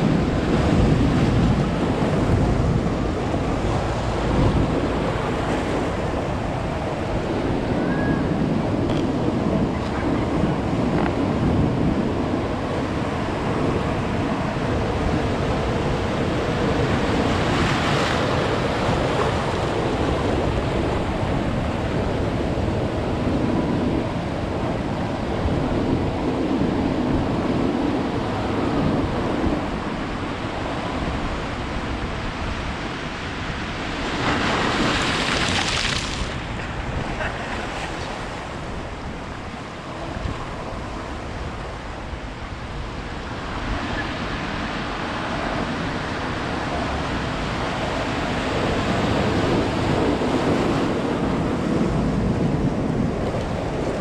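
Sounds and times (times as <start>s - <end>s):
waves breaking on shore: 0.0s - 54.0s
wind buffeting microphone: 0.0s - 54.0s.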